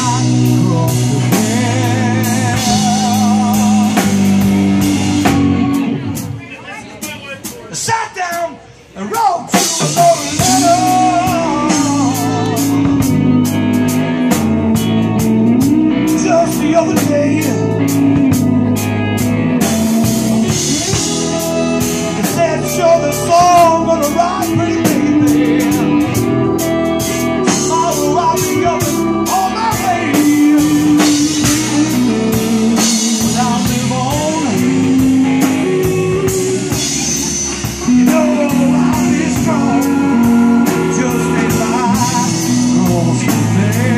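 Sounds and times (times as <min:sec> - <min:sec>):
steady drum beat: 0:00.0 - 0:08.6, 0:09.2 - 0:43.9
blues-rock band playing: 0:00.0 - 0:43.9.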